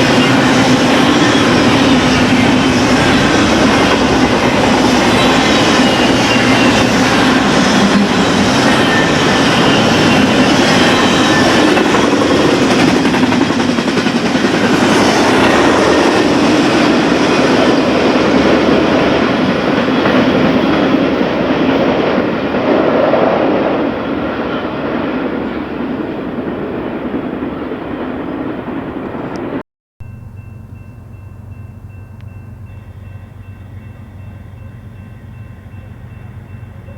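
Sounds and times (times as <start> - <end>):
freight train wheels clacking: 0.0 - 36.9.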